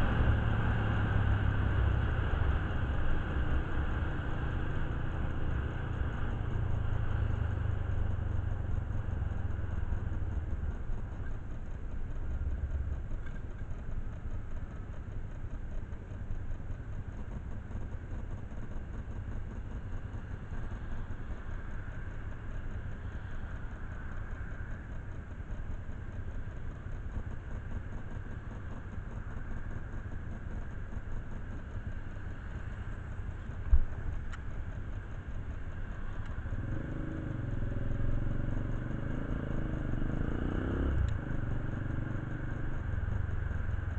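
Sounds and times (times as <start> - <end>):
engine idling: 0.0 - 38.2, 41.0 - 43.9.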